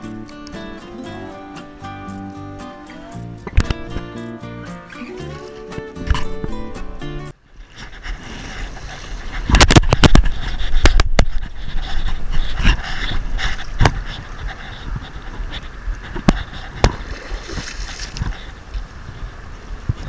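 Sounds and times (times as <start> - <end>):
water noise: 0.0 - 20.0
wind: 0.0 - 20.0.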